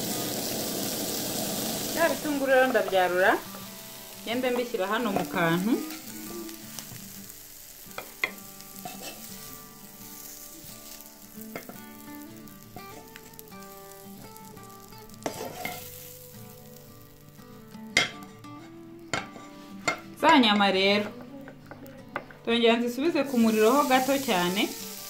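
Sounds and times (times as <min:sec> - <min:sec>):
oil sizzling in a frying pan: 0:00.0 - 0:20.1, 0:23.0 - 0:25.0.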